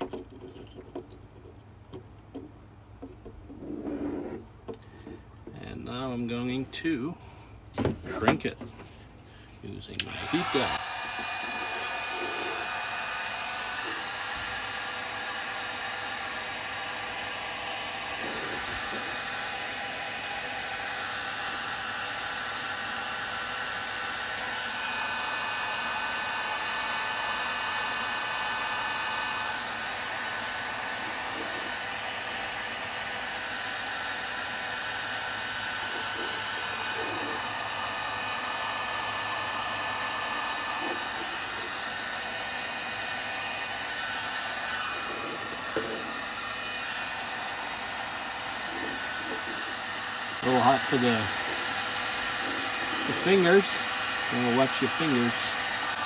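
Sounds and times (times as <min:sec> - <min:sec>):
heat gun fan whining: 0:00.0 - 0:56.0.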